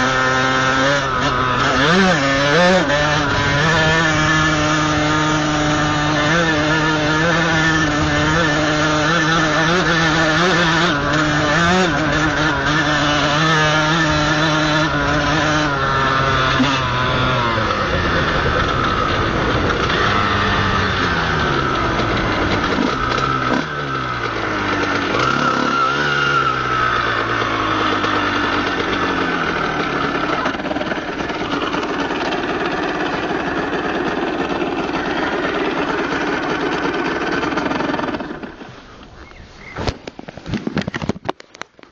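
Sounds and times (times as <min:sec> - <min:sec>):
two-stroke motorcycle engine: 0:00.0 - 0:41.9.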